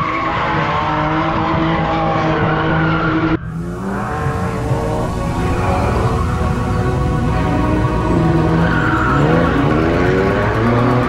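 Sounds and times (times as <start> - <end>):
car engine at high revs: 0.0 - 11.0
tyres squealing: 2.0 - 11.0.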